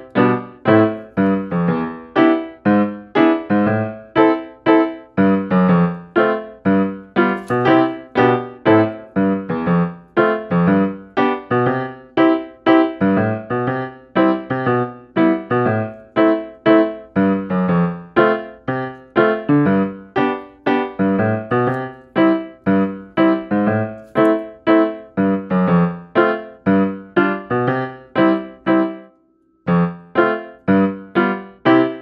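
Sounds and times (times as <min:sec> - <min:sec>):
bouncy piano chords: 0:00.0 - 0:32.0.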